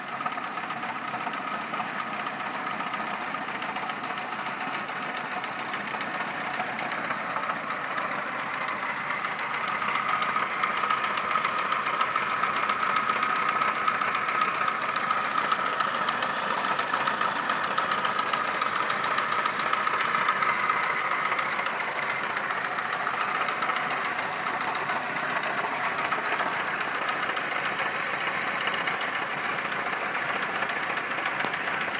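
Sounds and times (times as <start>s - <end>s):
car engine running with a knock: 0.0s - 31.9s.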